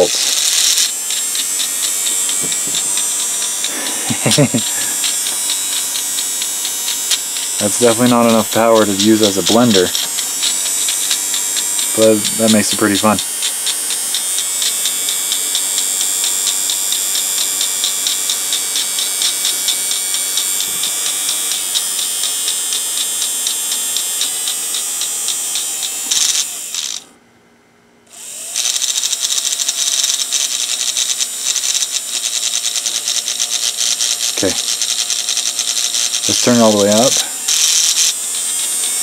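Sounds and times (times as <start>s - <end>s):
blender motor whining: 0.0s - 27.1s, 28.1s - 39.0s
gears clicking: 0.0s - 27.1s, 28.2s - 39.0s.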